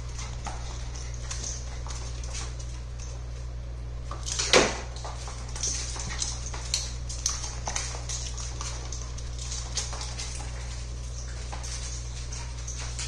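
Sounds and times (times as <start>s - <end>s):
claws scrabbling on laminate floor: 0.0s - 13.0s.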